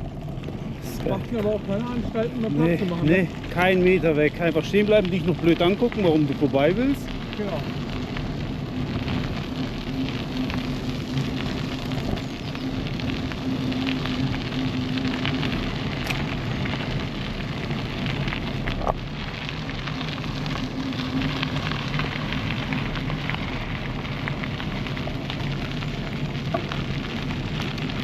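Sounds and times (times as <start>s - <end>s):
bicycle tyres rolling over path: 0.0s - 28.0s.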